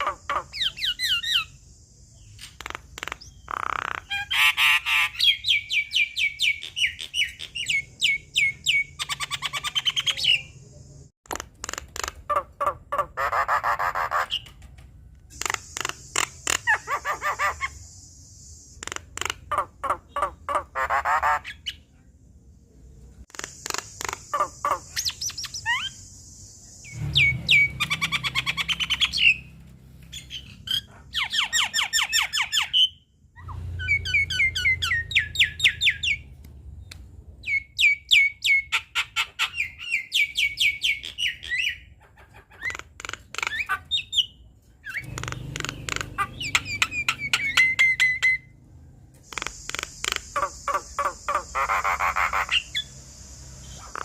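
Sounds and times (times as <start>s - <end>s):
bird chattering and whistling: 0.0s - 10.8s, 15.3s - 21.9s, 23.3s - 29.5s, 30.1s - 36.3s, 37.4s - 48.5s, 49.2s - 54.0s.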